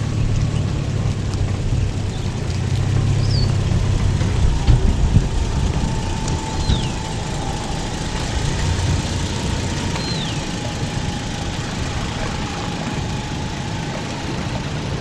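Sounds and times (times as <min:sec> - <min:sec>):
pickup engine rumbling: 0:00.0 - 0:15.0.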